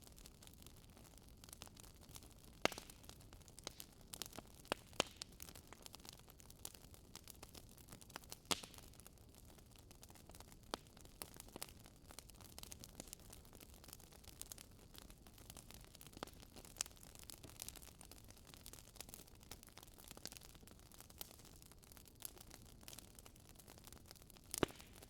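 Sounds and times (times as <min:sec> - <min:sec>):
burning wood crackling: 0:00.0 - 0:25.0.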